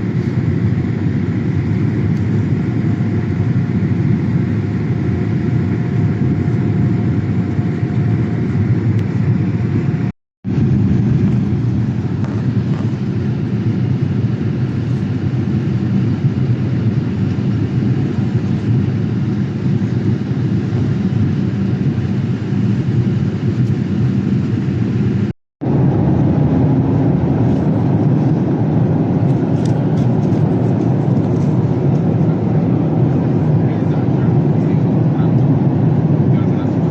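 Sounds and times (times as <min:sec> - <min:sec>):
low roar of jet engines: 0:00.0 - 0:36.9.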